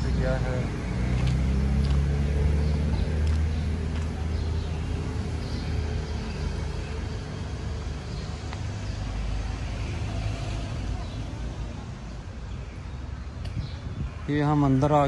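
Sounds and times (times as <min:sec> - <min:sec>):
road traffic engine hum: 0:00.0 - 0:15.0.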